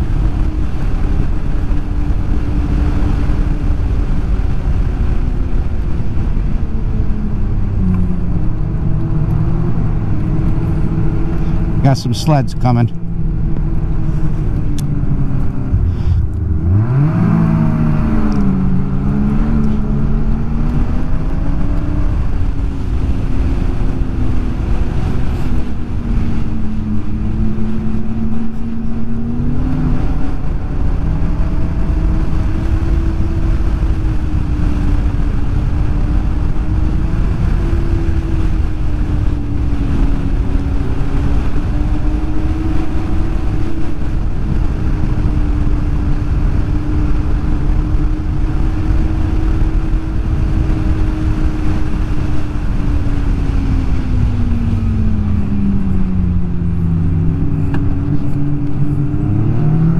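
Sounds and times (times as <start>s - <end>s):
snowmobile engine running: 0.0s - 59.9s
steady low rumble: 0.0s - 59.9s.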